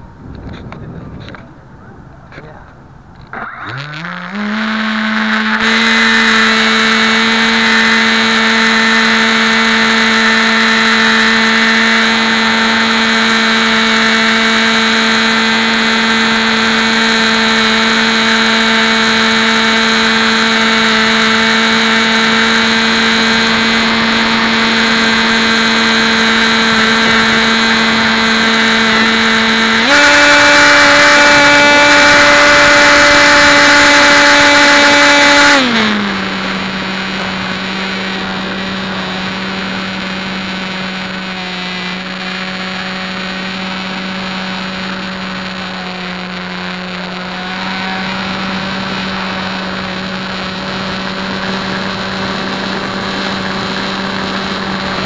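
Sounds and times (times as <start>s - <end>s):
model plane motor whine: 3.2s - 55.0s.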